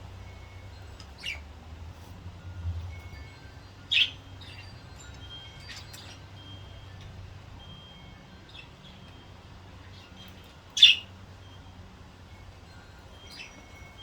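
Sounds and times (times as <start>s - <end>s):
budgerigars chirping softly: 0.1s - 2.2s, 3.0s - 14.0s.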